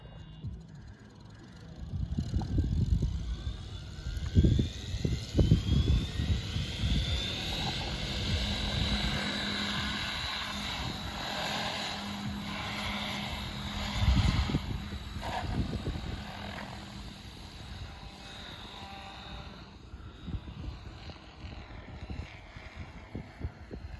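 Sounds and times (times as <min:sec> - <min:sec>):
electric motor whine: 0:00.0 - 0:23.9
rotor hum: 0:00.0 - 0:23.9.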